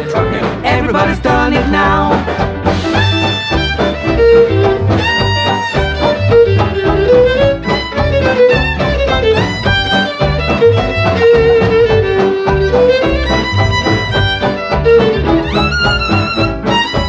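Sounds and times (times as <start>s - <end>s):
fiddle sliding melody: 0.0s - 17.0s
rhythm section swing beat: 0.0s - 17.0s.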